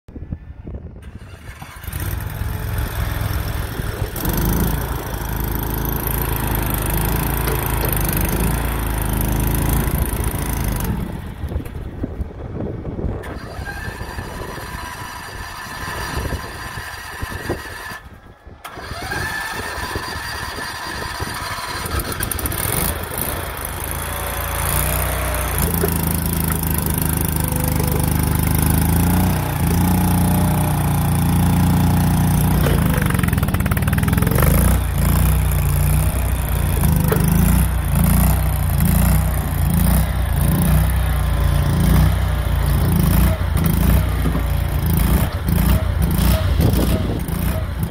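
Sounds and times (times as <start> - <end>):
hydraulics raising bucket: 1.0 - 11.8, 13.2 - 41.8
small engine running: 1.0 - 11.8, 13.2 - 47.9.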